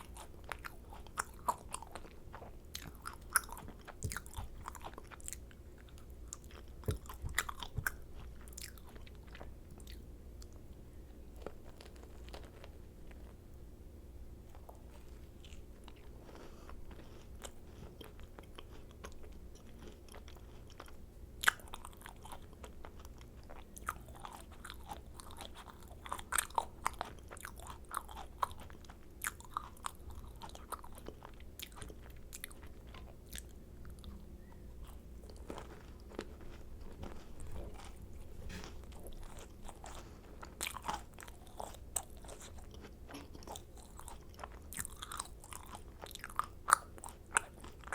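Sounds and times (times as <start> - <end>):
faint hum: 0.0 - 47.9
soft chewing: 0.0 - 47.9.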